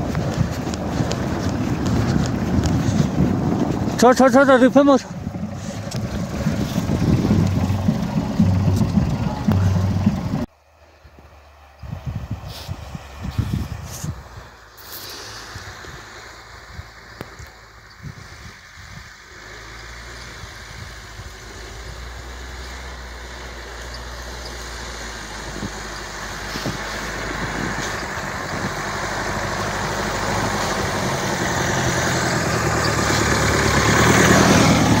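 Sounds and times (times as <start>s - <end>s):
engine driving through snow: 0.0s - 35.0s.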